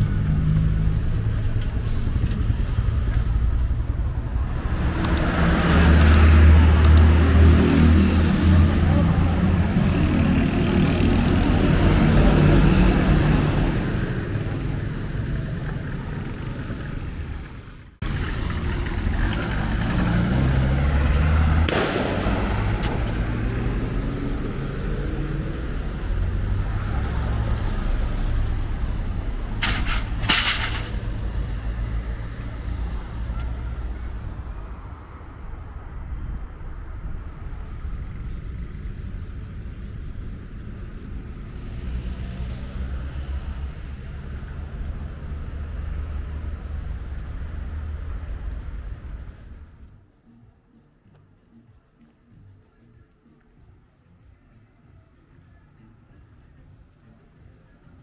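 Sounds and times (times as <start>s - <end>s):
vehicles passing close by: 0.0s - 51.6s.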